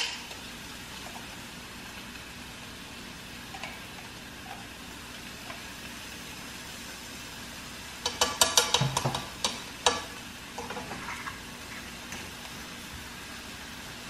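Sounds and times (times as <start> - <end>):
chicken sizzling in a skillet: 0.0 - 14.0
garlic crackling in a pan: 0.0 - 14.0.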